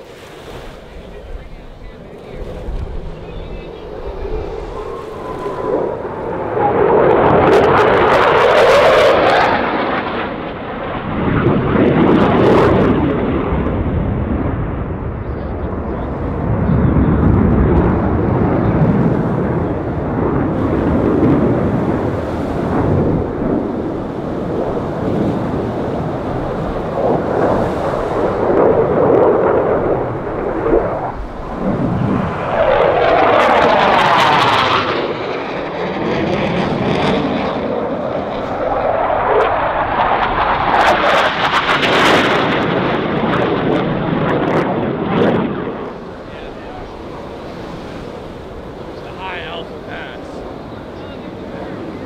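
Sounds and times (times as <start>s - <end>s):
jets roaring past overhead: 0.0s - 52.0s.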